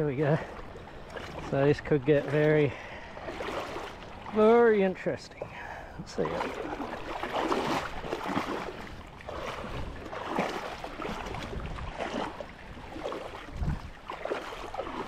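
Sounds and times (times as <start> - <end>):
water splashing around wading legs: 0.0 - 15.0.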